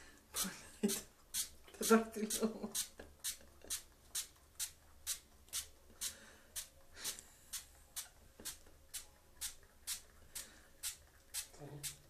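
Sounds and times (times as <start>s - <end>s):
spray bottle squirting water: 0.3s - 12.0s.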